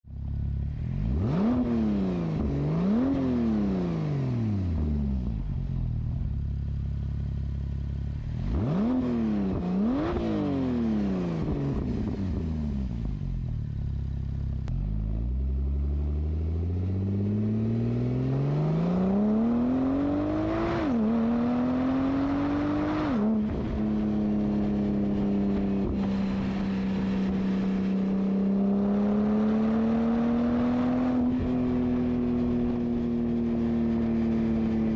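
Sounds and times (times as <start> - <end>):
car engine revving: 0.2 - 5.6, 6.9 - 34.9.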